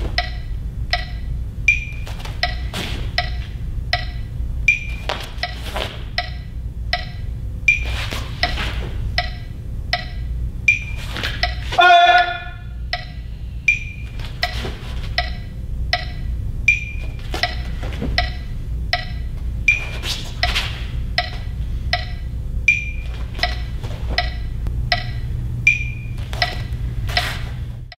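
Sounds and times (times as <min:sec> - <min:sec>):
low steady hum: 0:00.0 - 0:27.9
wood block ticking: 0:00.1 - 0:07.8, 0:09.2 - 0:11.7, 0:12.9 - 0:19.8, 0:20.4 - 0:27.3.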